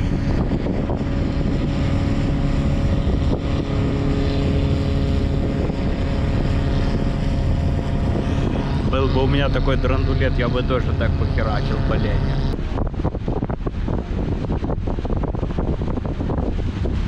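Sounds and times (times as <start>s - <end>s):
boat engine droning: 0.0s - 17.0s
wind on microphone: 0.0s - 17.0s.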